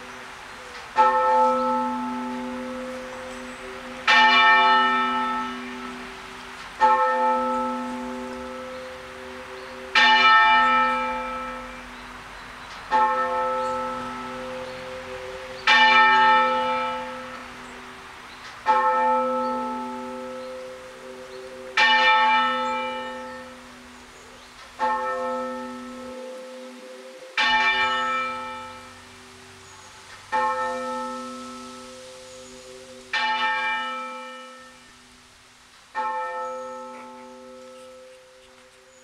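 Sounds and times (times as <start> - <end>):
muffled church bell tolling: 1.0 - 12.1, 12.9 - 17.8, 18.6 - 24.0, 24.8 - 29.6, 30.3 - 35.1, 36.0 - 38.6.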